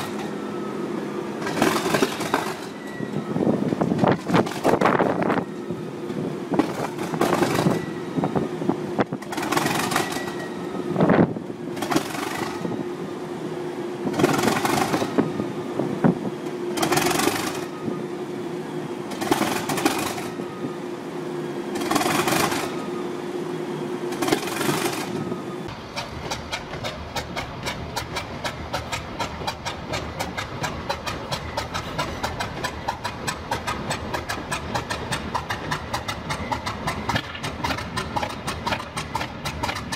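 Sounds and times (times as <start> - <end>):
diesel engine fast even beat: 0.0 - 39.9
diesel locomotive engine humming: 0.0 - 39.9.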